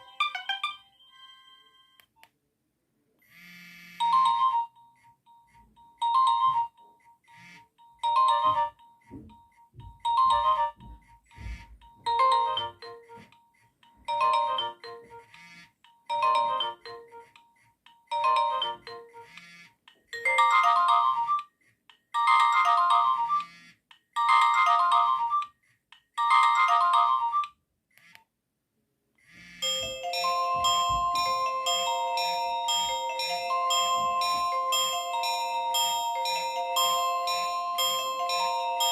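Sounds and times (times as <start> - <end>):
mobile phone ringtone: 0.0 - 2.0, 3.3 - 13.3, 14.0 - 17.4, 18.1 - 19.6, 20.2 - 21.5, 22.2 - 23.6, 24.2 - 25.5, 26.2 - 27.5, 29.6 - 38.9.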